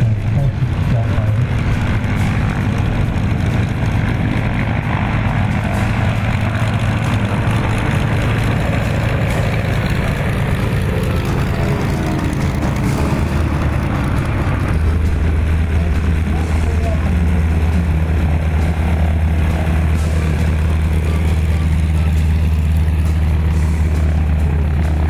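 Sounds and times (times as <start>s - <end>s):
propeller aircraft engine droning: 0.0s - 25.0s.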